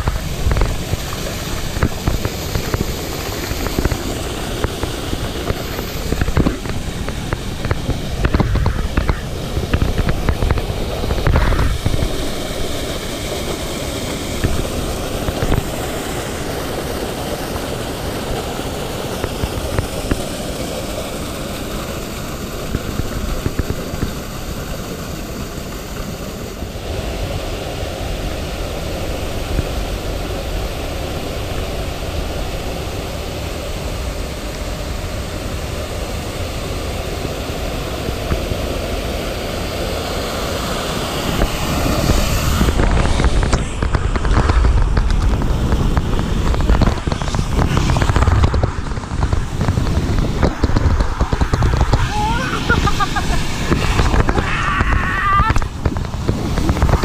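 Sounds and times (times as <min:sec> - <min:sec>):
water rushing: 0:00.0 - 0:57.0
water splashing: 0:00.0 - 0:57.0.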